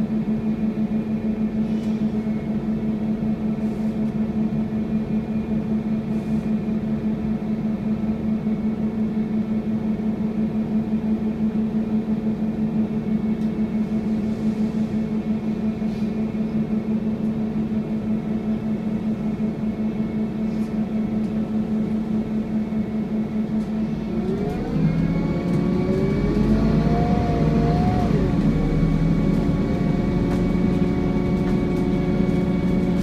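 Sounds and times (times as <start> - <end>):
bus diesel engine humming: 0.0 - 33.0
engine whine: 0.0 - 33.0.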